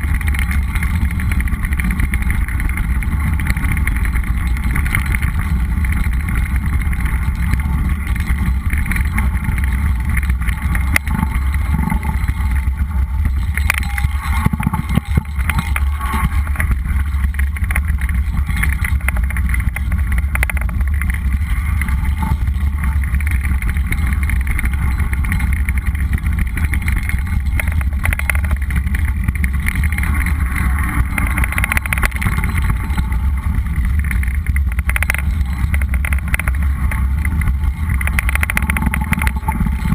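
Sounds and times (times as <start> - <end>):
bike knocking and rattling: 0.0 - 39.9
tyres rumbling on dirt trail: 0.0 - 39.9.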